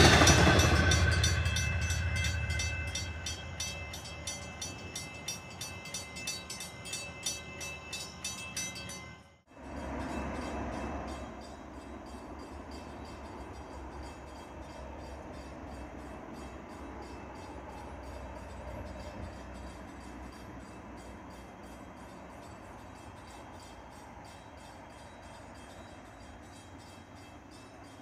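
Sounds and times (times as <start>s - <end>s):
crossing bell ringing rapidly: 0.0s - 28.0s
distant train rumbling: 0.0s - 28.0s.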